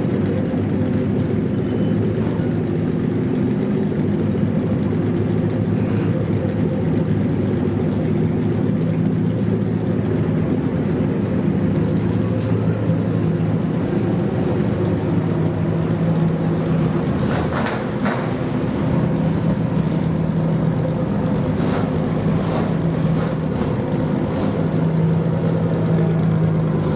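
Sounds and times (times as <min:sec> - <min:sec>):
car engine idling: 0:00.0 - 0:26.9
engine crackles: 0:00.0 - 0:26.9.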